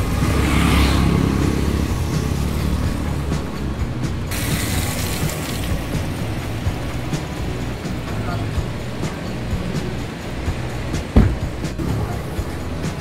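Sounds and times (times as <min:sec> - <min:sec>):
motor scooter passing: 0:00.0 - 0:13.0
outdoor road noise: 0:00.0 - 0:13.0.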